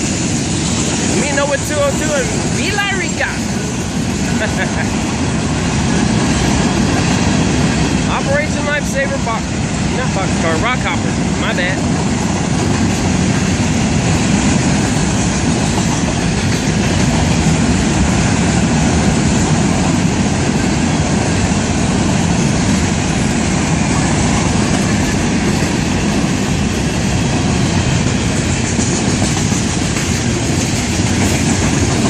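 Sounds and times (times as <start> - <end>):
freight train rolling past: 0.0 - 32.0.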